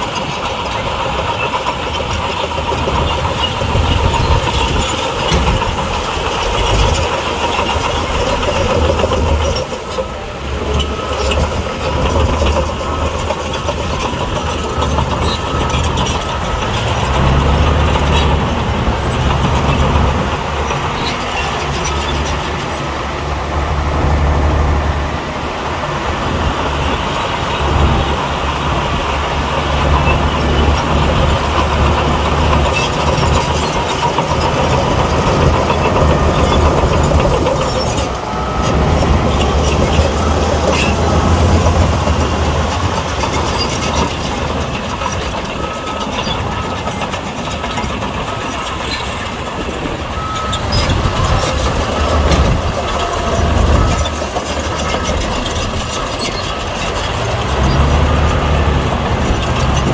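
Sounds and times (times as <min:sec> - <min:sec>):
bulldozer diesel engine drone: 0:00.0 - 0:59.9
metal clanks and knocks: 0:01.1 - 0:22.9, 0:28.6 - 0:59.9.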